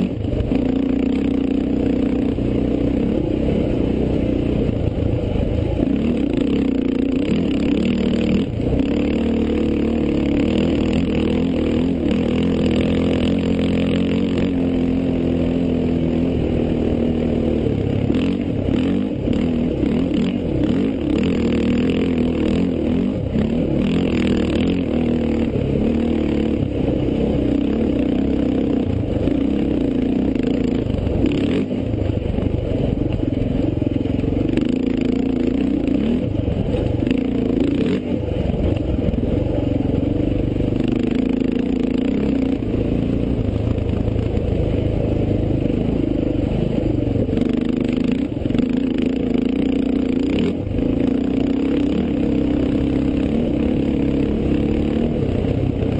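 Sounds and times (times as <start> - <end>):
vehicle engine running hard: 0.0 - 55.9.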